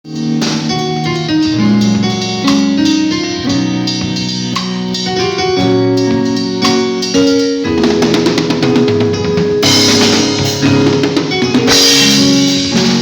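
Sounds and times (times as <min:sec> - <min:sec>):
gospel band music: 0:00.0 - 0:13.0
keyboard chords: 0:00.0 - 0:13.0
drum and cymbal hits: 0:00.1 - 0:13.0.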